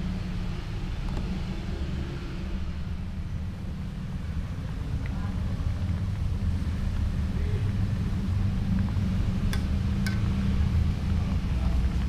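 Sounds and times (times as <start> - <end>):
gas burner rumbling and hissing: 0.0 - 12.0.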